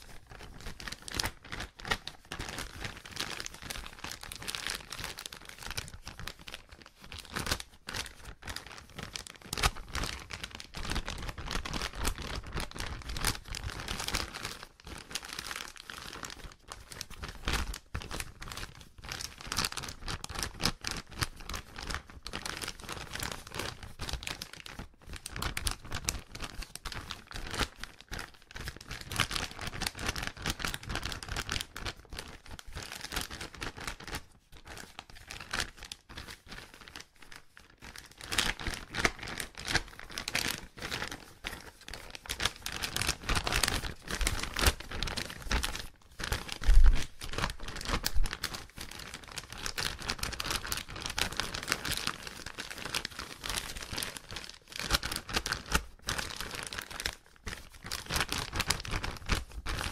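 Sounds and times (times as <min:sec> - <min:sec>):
plastic bag crinkling: 0:00.0 - 0:59.9.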